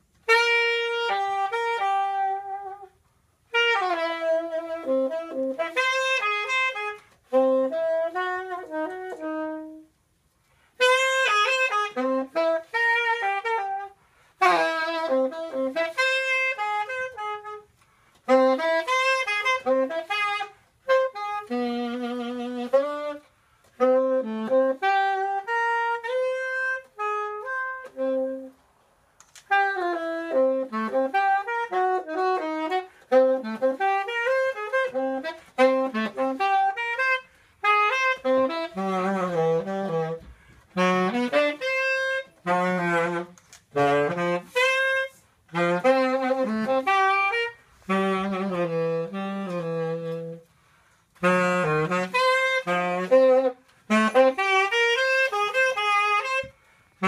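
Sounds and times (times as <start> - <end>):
solo saxophone melody: 0.0 - 57.0.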